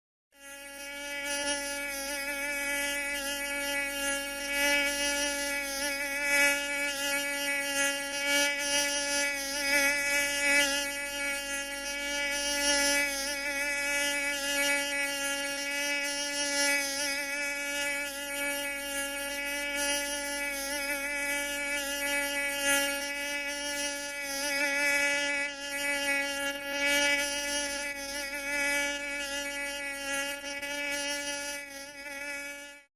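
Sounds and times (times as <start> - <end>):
mosquito whining buzz: 0.4 - 32.9.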